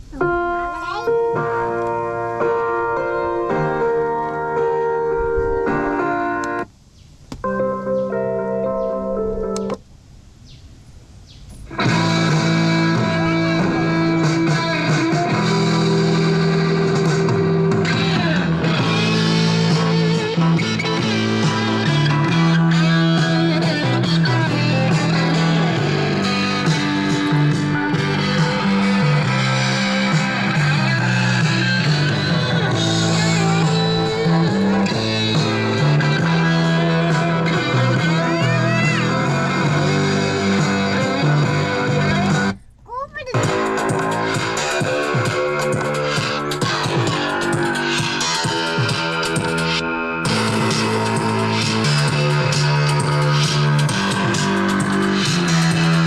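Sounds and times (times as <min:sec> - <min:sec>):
electric guitar music over speakers: 0:00.0 - 0:06.7, 0:07.4 - 0:09.8, 0:11.7 - 0:42.6, 0:43.3 - 0:56.0.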